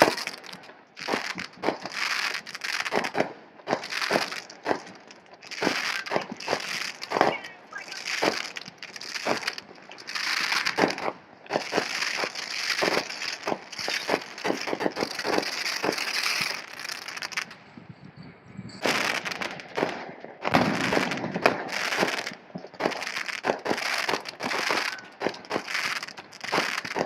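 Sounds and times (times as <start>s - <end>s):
fireworks crackling and popping: 0.0s - 17.8s, 18.8s - 27.0s.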